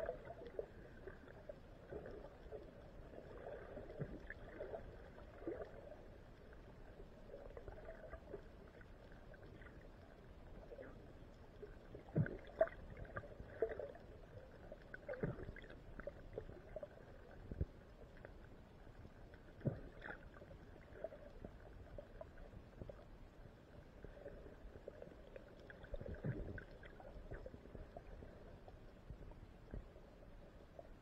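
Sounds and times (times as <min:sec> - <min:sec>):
muffled water movement: 0:00.0 - 0:31.0.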